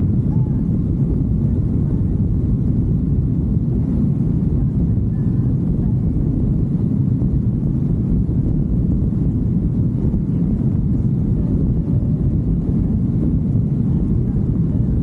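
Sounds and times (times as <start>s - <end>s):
wind rumble: 0.0s - 15.0s.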